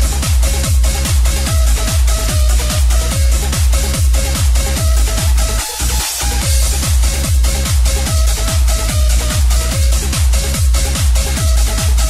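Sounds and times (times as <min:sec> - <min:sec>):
electronic dance music: 0:00.0 - 0:12.0
four-on-the-floor kick drum: 0:00.0 - 0:12.0.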